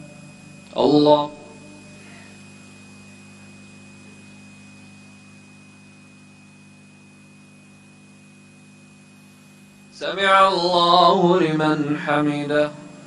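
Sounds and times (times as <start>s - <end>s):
electrical hum: 0.0s - 13.0s
thin high steady tone: 0.0s - 13.0s.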